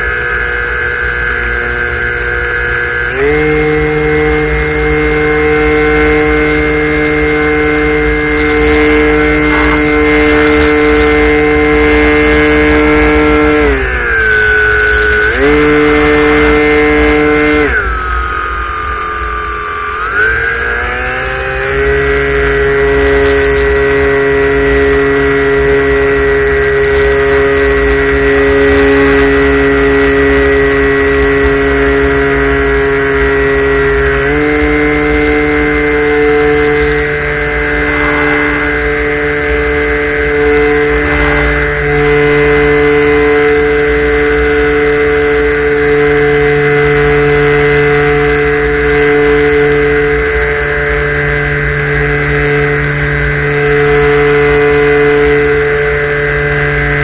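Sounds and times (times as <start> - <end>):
model airplane motor droning: 0.0 - 57.0.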